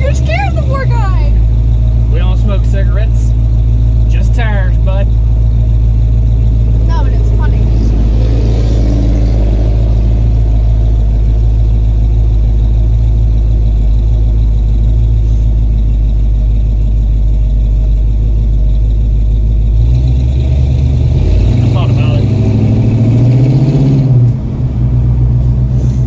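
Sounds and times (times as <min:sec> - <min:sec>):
truck engine and loud exhaust: 0:00.0 - 0:26.0.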